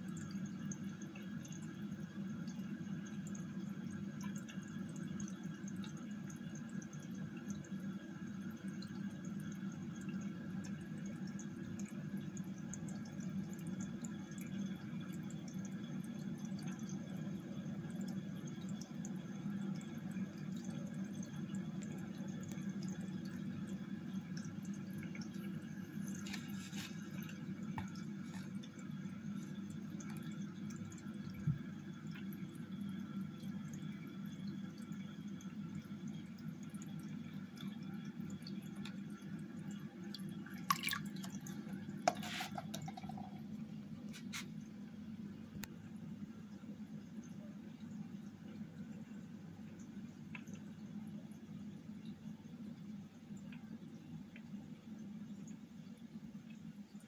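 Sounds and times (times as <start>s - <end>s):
low pump hum: 0.0s - 57.0s
water trickling and dripping: 0.0s - 57.0s.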